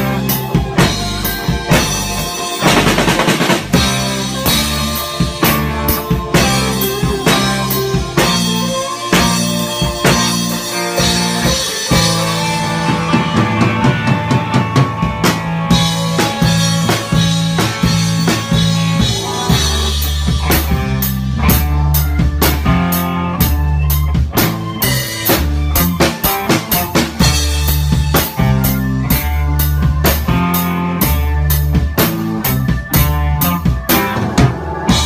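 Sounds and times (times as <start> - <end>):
drum kit beat: 0.0 - 35.0
electric guitar: 0.0 - 35.0.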